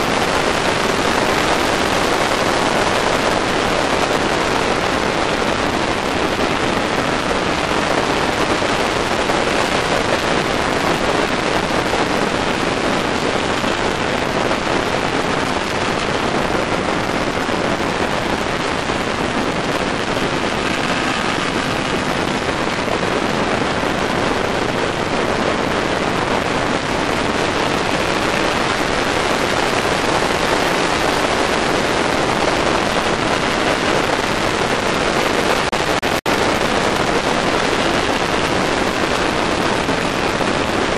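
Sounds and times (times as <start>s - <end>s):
wind rush over microphone: 0.0s - 40.9s.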